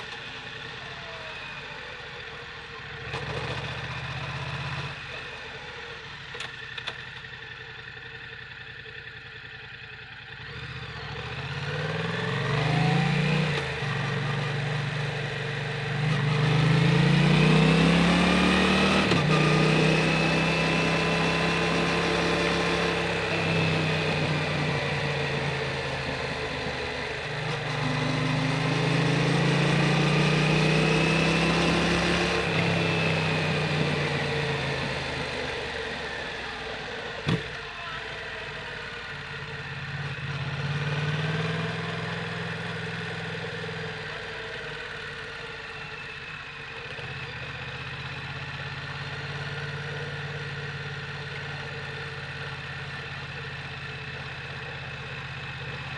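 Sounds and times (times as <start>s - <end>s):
motorcycle engine at low revs: 0.0s - 55.9s.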